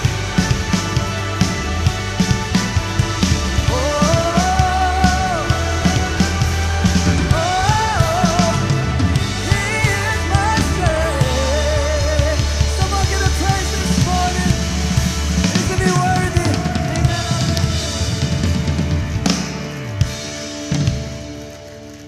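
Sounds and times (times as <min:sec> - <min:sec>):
bass drum and snare: 0:00.0 - 0:22.0
live band music: 0:00.0 - 0:22.0
steady bass: 0:00.0 - 0:22.0.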